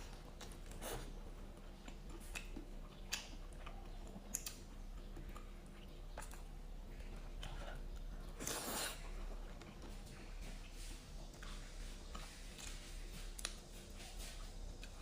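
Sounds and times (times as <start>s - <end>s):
person chewing: 0.0s - 15.0s
steady low hum: 0.0s - 15.0s.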